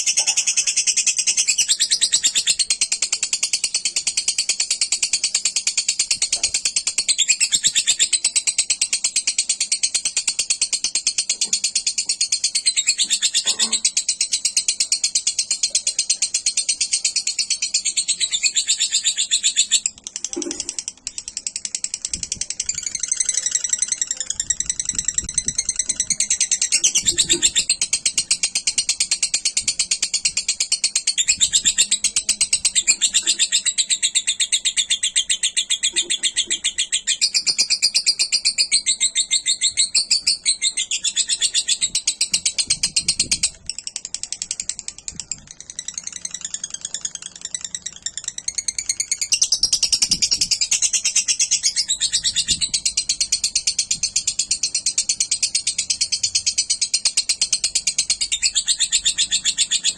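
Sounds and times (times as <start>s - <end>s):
lovebird chattering: 0.0s - 59.9s.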